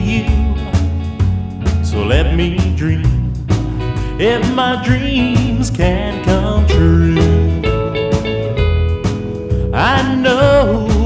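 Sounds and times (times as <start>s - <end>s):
country song: 0.0s - 11.0s.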